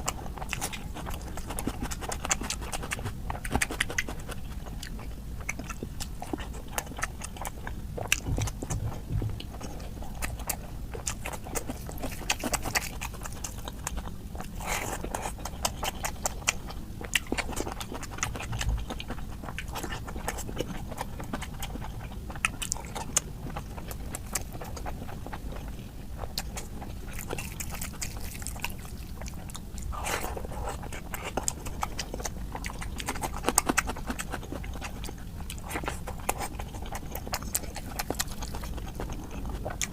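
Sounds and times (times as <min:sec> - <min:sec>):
wet chewing and lip smacking: 0:00.0 - 0:39.9.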